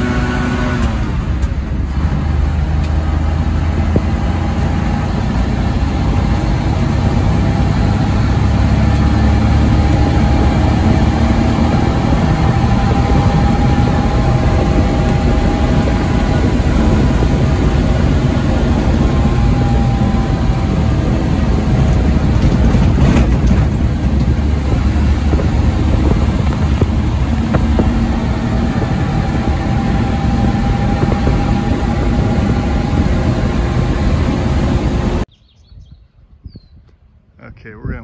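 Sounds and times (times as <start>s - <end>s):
truck engine running: 0.0s - 35.3s
road noise: 0.0s - 38.0s.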